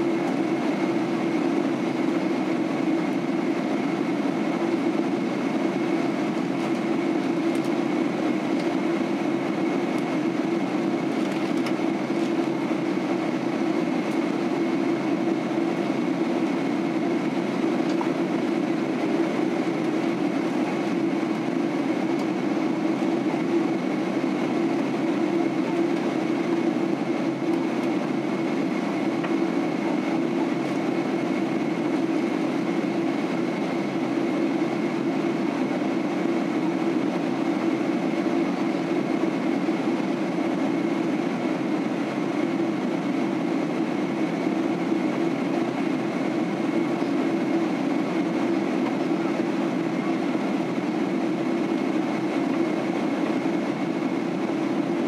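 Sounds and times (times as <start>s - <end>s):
airliner engine drone: 0.0s - 55.0s.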